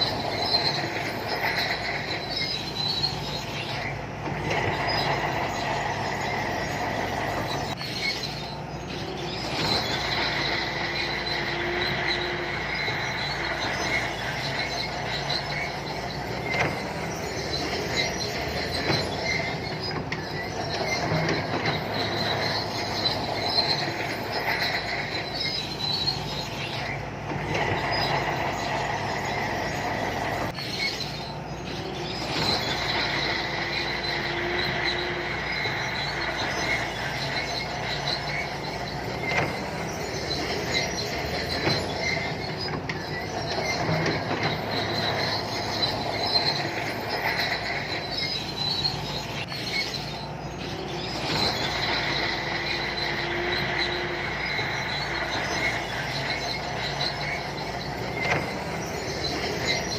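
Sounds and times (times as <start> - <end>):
bulldozer diesel engine running: 0.0 - 59.9
steel tracks squealing: 0.0 - 59.9.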